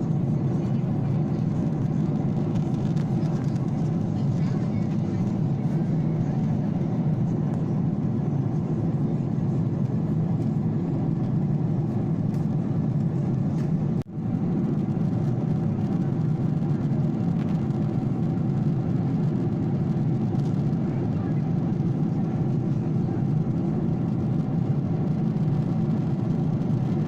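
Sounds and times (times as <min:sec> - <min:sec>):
airliner engines droning: 0:00.0 - 0:27.0.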